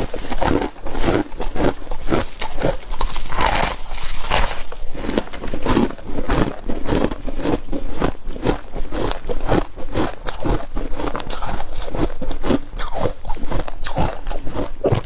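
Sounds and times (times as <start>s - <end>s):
crunching and chewing frost: 0.0s - 15.0s.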